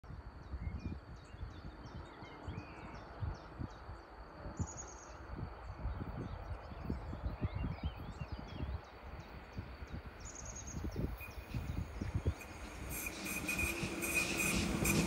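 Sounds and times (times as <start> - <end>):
wind buffeting microphone: 0.1 - 15.0
songbirds chirping: 0.4 - 15.0.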